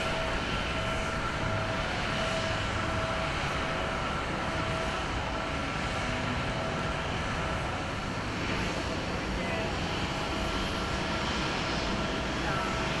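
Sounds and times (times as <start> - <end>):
high engine whine: 0.0 - 13.0
jet engines roaring: 0.0 - 13.0.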